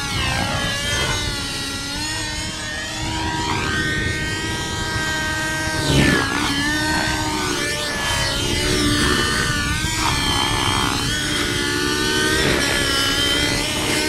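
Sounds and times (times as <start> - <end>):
model helicopter engine whining: 0.0 - 14.0.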